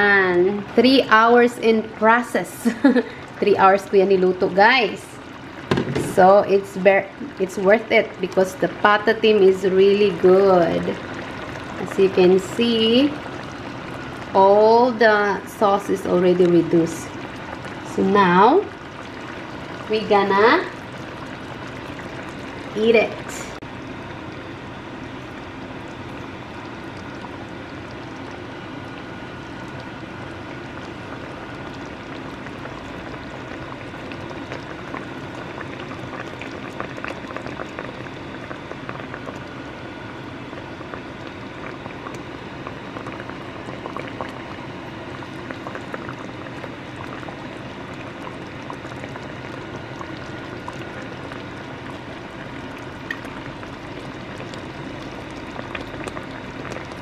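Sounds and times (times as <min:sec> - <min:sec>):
sauce bubbling in a pan: 0:00.0 - 0:57.0.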